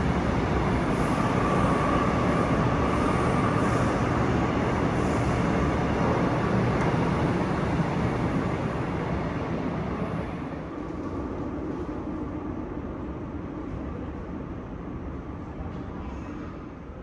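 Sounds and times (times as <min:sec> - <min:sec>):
electric train rumbling on track: 0:00.0 - 0:17.0
faint train whine: 0:00.0 - 0:17.0.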